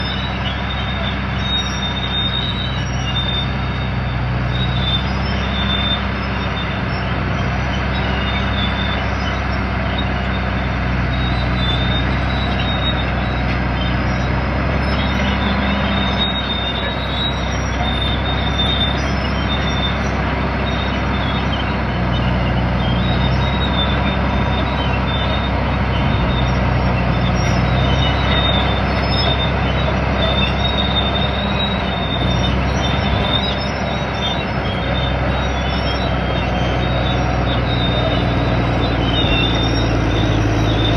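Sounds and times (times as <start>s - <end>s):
diesel engine under load: 0.0s - 40.9s
high metallic squealing: 0.0s - 40.9s.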